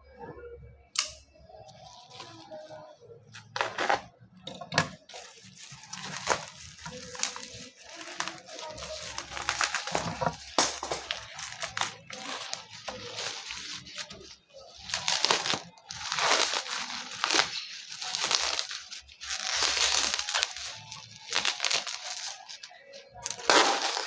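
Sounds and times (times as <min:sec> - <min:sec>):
plastic packaging crinkling and tearing: 0:01.7 - 0:24.0.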